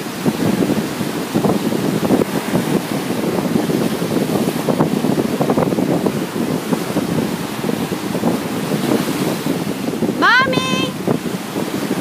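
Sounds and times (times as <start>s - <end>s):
ocean surf washing ashore: 0.0s - 12.0s
wind buffeting microphone: 0.0s - 12.0s.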